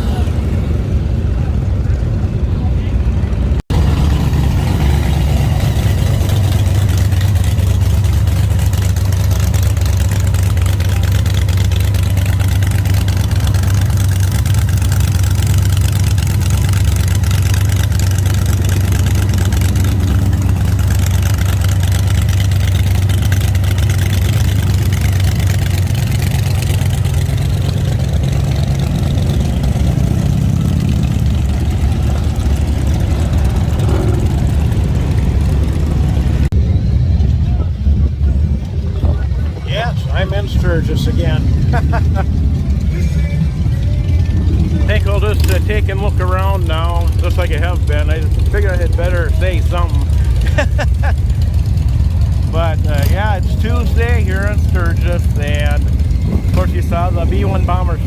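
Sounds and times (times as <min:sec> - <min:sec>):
motorcycle engines idling: 0:00.0 - 0:58.0.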